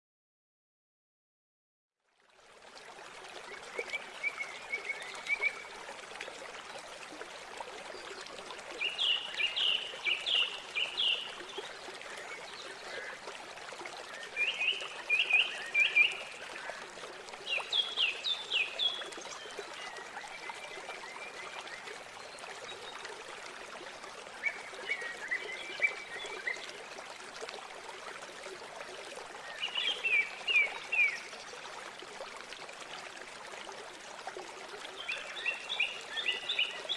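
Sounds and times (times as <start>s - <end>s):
river water flowing: 2.1s - 36.9s.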